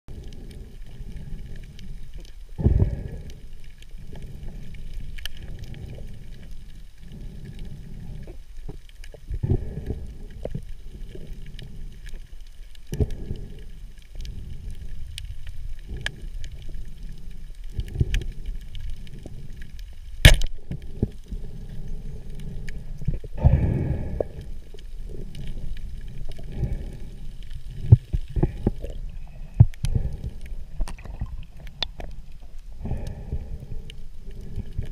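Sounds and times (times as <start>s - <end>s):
muffled underwater rumble: 0.1s - 34.9s.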